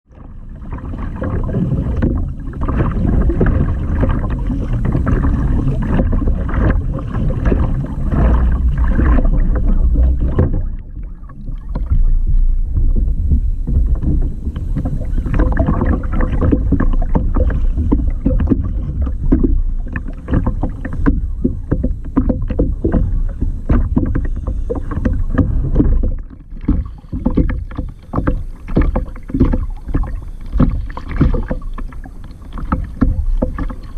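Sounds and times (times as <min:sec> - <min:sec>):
water splashing around a kayak: 0:00.0 - 0:33.9.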